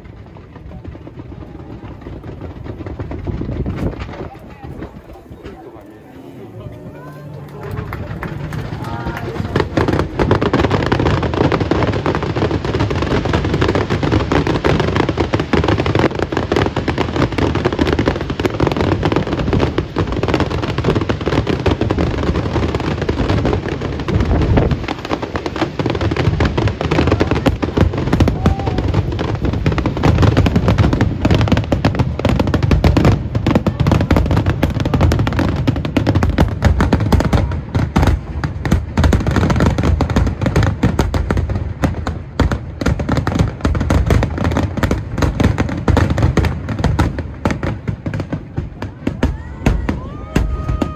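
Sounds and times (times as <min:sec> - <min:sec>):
fireworks bursts and crackles: 0:00.0 - 0:50.9.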